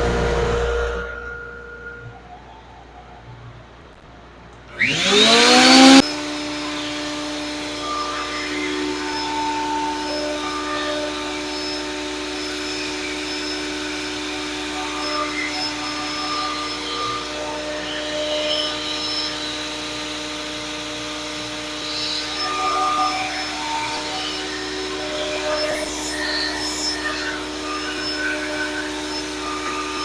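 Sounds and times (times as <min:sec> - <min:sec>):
planer whirring hum: 0:04.7 - 0:30.0.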